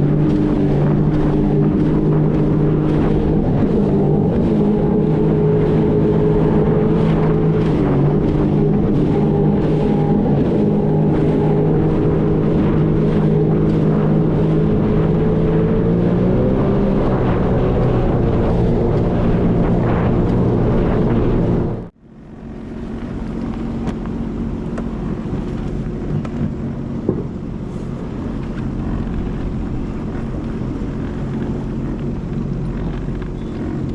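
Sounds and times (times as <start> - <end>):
jet ski engine running: 0.0 - 33.9
water noise: 0.0 - 33.9
wind noise: 0.0 - 33.9.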